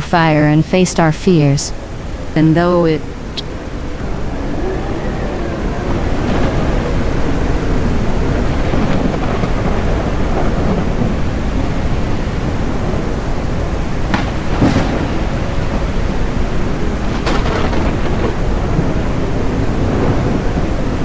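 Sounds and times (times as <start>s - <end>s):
steady rain: 1.7s - 21.0s
low rolling thunder: 3.0s - 21.0s.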